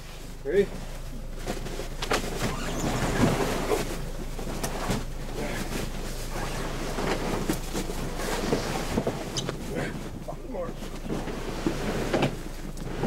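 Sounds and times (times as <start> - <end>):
tow vehicle pulling trailer: 0.0 - 13.0.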